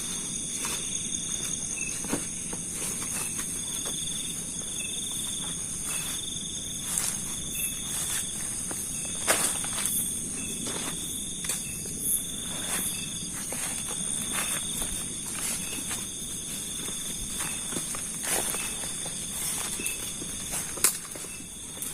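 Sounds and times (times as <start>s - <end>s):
crickets and insects trilling: 0.0s - 21.9s
footsteps: 0.0s - 21.9s.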